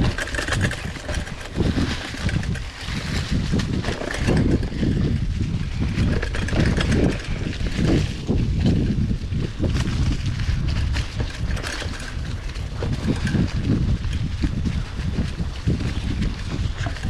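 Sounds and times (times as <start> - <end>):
bike knocks and rattles: 0.0 - 17.0
bike tyres rumbling on dirt: 0.0 - 17.0
wind buffeting microphone: 0.0 - 17.0.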